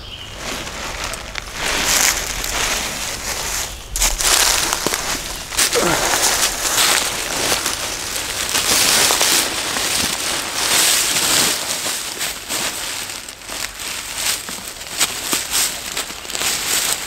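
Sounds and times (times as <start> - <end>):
dry leaves crunching and rustling: 0.0 - 17.0.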